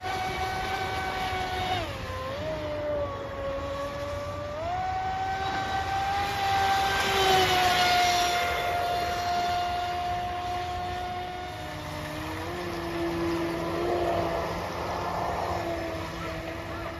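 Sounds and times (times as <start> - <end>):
radio-controlled boat motor whining: 0.0 - 16.9.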